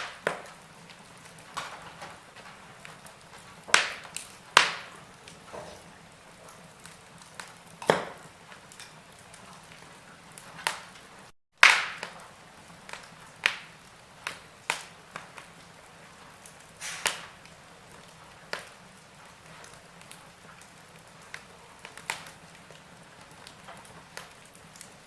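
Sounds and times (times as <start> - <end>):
burning logs popping: 0.0 - 25.0
wood fire crackling: 0.0 - 25.0.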